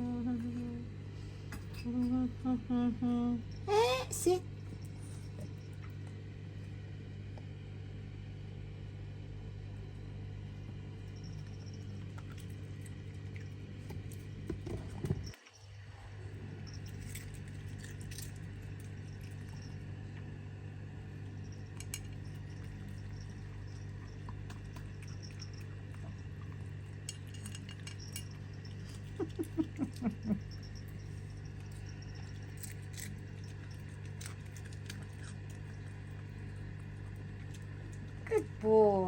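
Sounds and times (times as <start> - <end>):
low hum: 0.0 - 39.0
dog eating: 3.4 - 7.0, 9.7 - 39.0.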